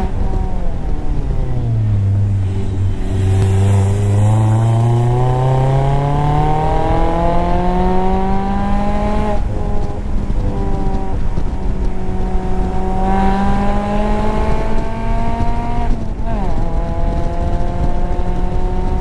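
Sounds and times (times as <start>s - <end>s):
car engine accelerating: 0.0s - 19.0s
road rumble: 0.0s - 19.0s
wind: 0.0s - 19.0s.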